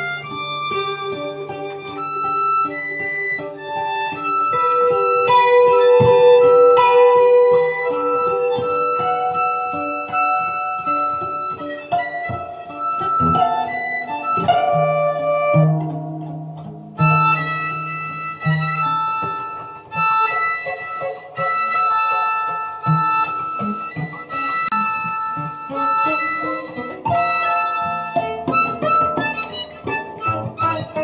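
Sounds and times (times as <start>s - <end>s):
acoustic guitar plucking: 0.0s - 31.0s
violin playing: 0.0s - 31.0s.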